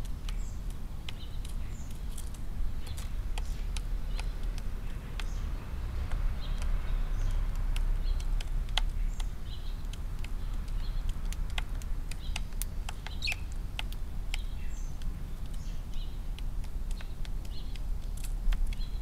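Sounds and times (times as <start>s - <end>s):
beaks pecking grain: 0.0s - 19.0s
sparrows chirping: 0.0s - 19.0s.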